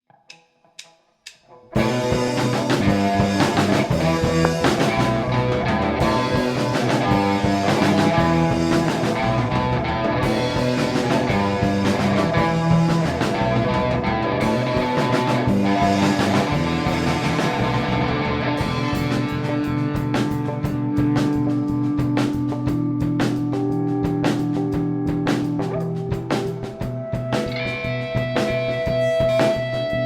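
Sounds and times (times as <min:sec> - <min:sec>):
drums: 0:00.3 - 0:30.0
electric guitar: 0:01.5 - 0:30.0
rock band playing: 0:01.7 - 0:30.0.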